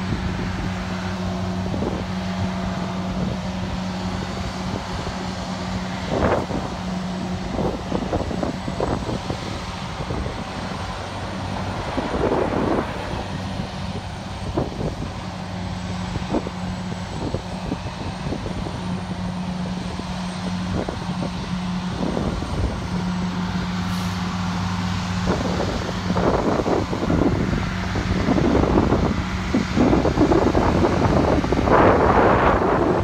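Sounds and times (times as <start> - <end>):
marine engine drone: 0.0 - 33.0
wind buffeting microphone: 0.0 - 33.0.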